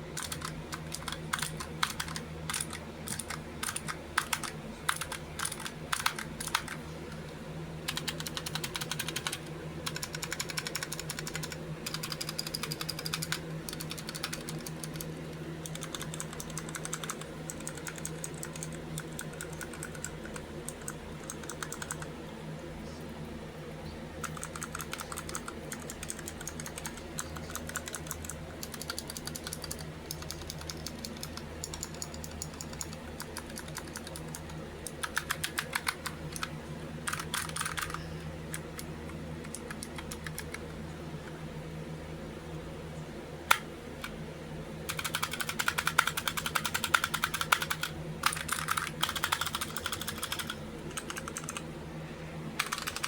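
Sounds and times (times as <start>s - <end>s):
clicky keyboard typing: 0.2s - 6.8s, 7.9s - 22.1s, 24.2s - 36.5s, 37.1s - 41.4s, 44.9s - 51.6s, 52.6s - 53.0s.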